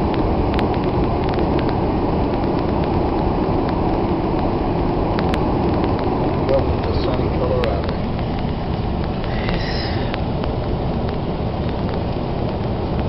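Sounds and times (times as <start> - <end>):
wind blowing on microphone: 0.0 - 13.0.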